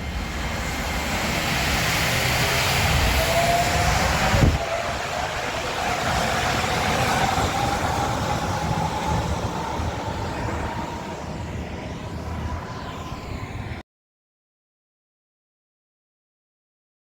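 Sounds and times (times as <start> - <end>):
electric motor whine rising: 0.0 - 13.8
train rumble and hiss: 0.0 - 13.8.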